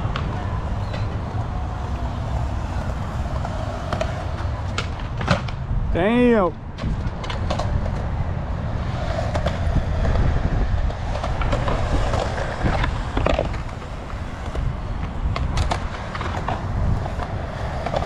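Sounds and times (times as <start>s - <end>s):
skateboard wheels rolling on concrete: 0.0s - 18.0s
skateboards clacking on ground: 0.0s - 18.0s.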